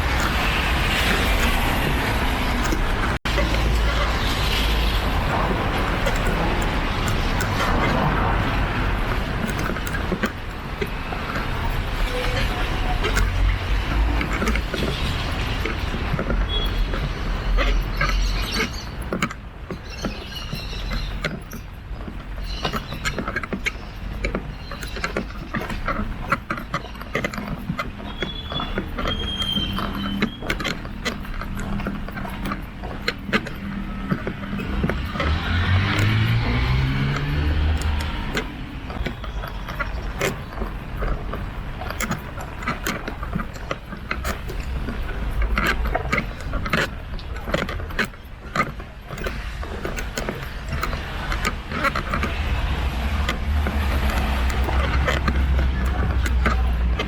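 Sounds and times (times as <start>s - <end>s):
street traffic rumble: 0.0s - 57.0s
thin squeaks: 0.0s - 57.0s
umbrella creaking and clicking: 0.0s - 57.0s.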